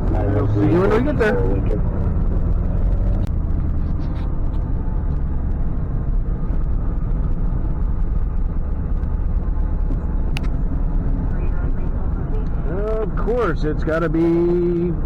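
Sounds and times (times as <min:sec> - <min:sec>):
road noise: 0:00.0 - 0:15.0
tow truck engine rumble: 0:00.0 - 0:15.0.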